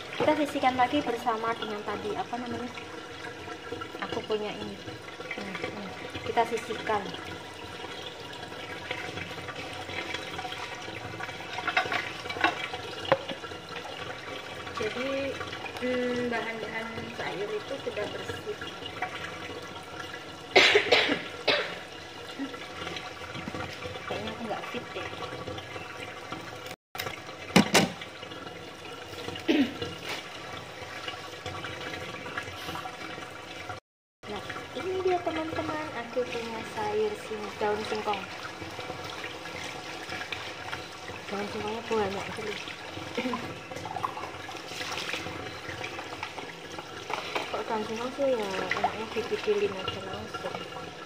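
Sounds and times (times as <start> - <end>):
hose water pouring into tub: 0.0 - 51.0.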